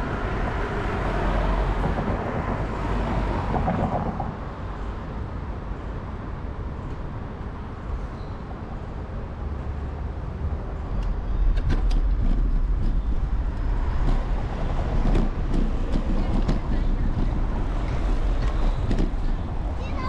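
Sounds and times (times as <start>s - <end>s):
motor vehicles rumble: 0.0s - 20.0s.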